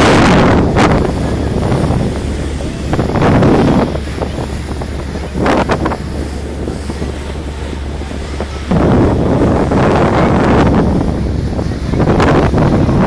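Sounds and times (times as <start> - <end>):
ferry engine drone: 0.0 - 13.0
wind buffeting microphone: 0.0 - 13.0.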